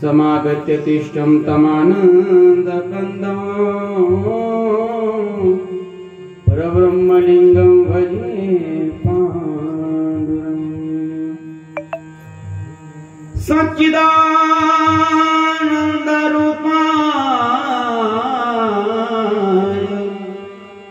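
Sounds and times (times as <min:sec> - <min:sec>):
man singing devotional melody: 0:00.0 - 0:12.2, 0:13.2 - 0:20.9.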